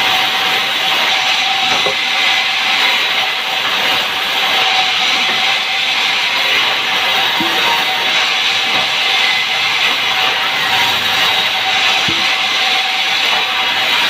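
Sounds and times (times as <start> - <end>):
sawmill saw hissing through timber: 0.0 - 14.0.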